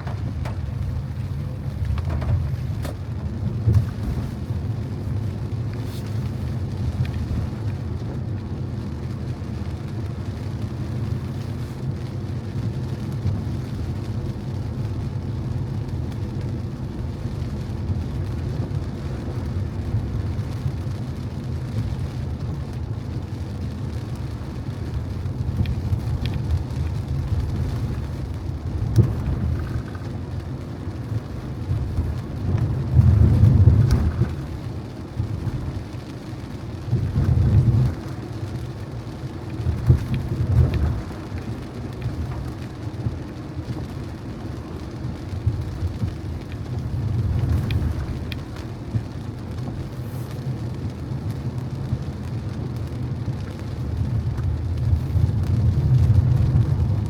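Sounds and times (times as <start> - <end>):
car road rumble and tyre noise: 0.0 - 57.0
raindrops ticking: 0.0 - 57.0.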